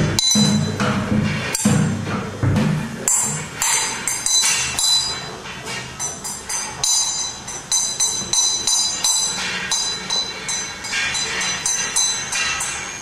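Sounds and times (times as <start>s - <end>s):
metal percussion strikes: 0.0s - 13.0s.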